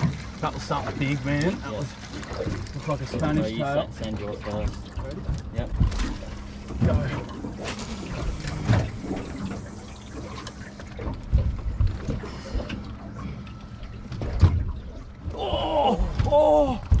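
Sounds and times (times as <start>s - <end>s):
faint steady hum: 0.0s - 17.0s
water sloshing against boat hull: 0.0s - 17.0s.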